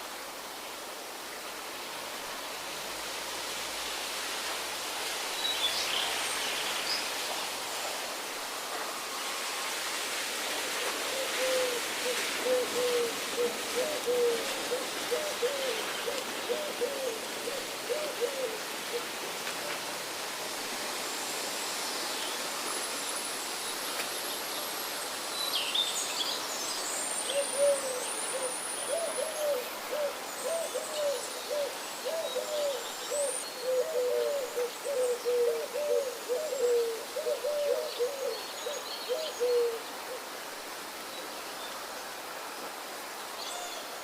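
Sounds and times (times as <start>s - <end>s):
steady hiss: 0.0s - 44.0s.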